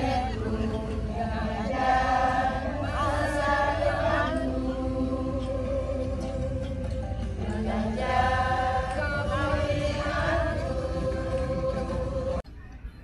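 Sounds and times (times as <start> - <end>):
group singing in chorus: 0.0 - 12.4.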